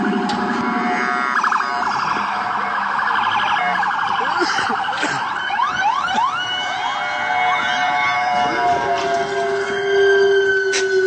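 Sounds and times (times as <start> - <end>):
police siren yelping: 0.0 - 11.0.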